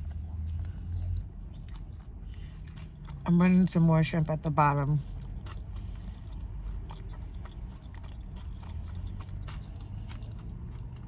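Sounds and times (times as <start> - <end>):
person chewing food: 0.0 - 11.0
steady low hum: 0.0 - 11.0.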